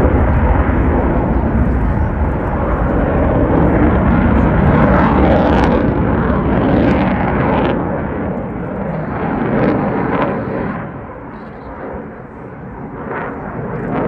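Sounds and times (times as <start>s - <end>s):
fighter jet flying past: 0.0s - 14.0s.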